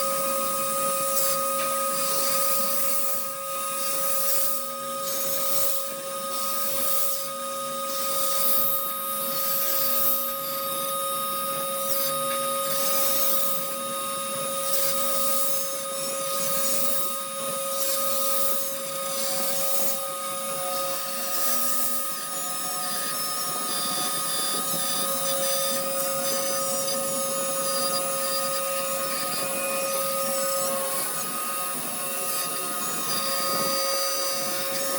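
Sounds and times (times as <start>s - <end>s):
router spindle whine: 0.0s - 34.9s.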